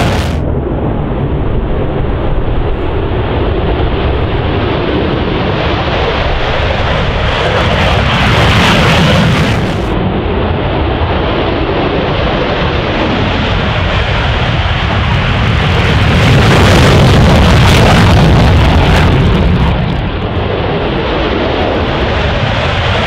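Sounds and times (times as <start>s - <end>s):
jet engine roaring: 0.0s - 23.0s.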